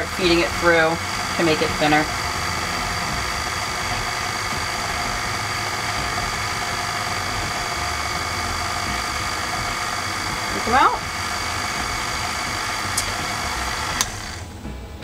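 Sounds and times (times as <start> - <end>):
stand mixer motor running: 0.0 - 14.6.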